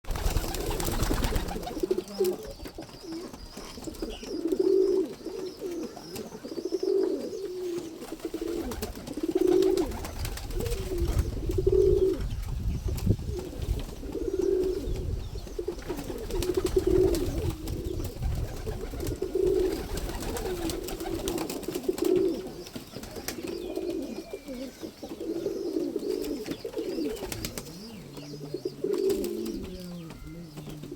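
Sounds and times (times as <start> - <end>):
pigeon cooing: 0.1 - 12.3, 13.3 - 30.9.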